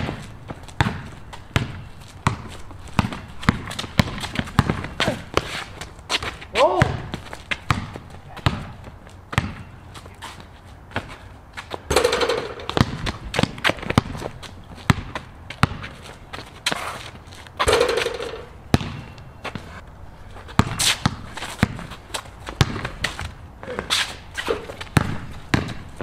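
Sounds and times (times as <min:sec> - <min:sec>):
basketball bouncing on concrete: 0:00.0 - 0:10.2, 0:10.9 - 0:16.8, 0:17.6 - 0:19.7, 0:20.5 - 0:26.0.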